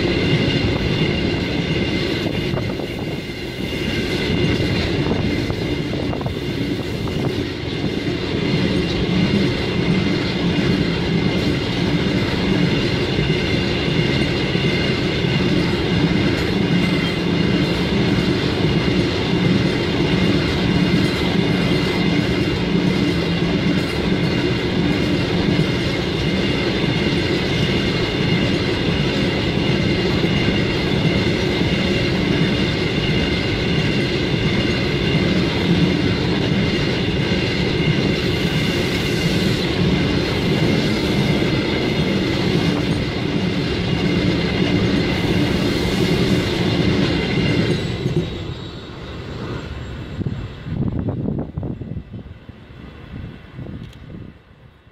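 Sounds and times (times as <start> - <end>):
train rumbling on rails: 0.0 - 54.9.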